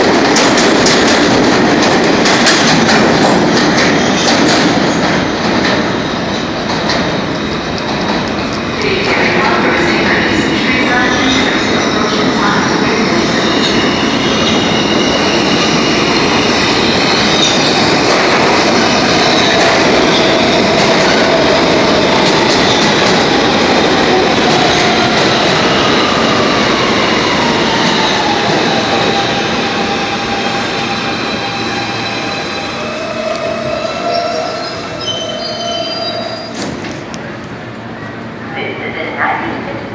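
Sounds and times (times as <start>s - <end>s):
subway train running on track: 0.0s - 39.9s.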